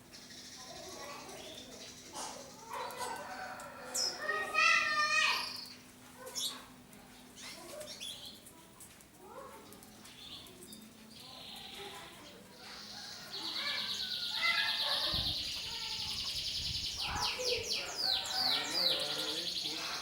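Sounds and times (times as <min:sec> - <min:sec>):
canaries chirping and trilling: 0:00.1 - 0:08.5, 0:09.4 - 0:20.0.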